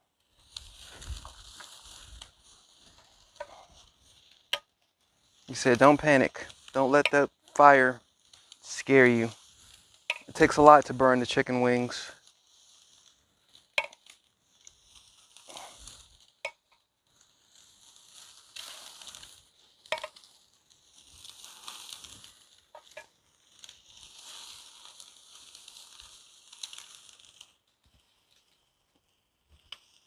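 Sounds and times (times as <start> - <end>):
chicken wings sizzling on grill: 0.1 - 30.0.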